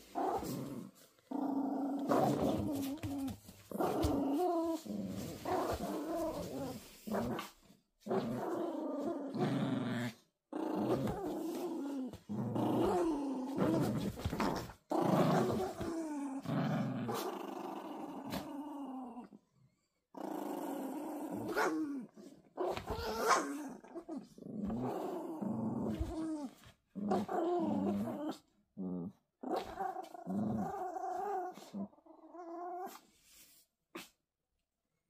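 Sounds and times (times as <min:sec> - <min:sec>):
dogs play growling: 0:00.0 - 0:19.4, 0:20.2 - 0:34.1.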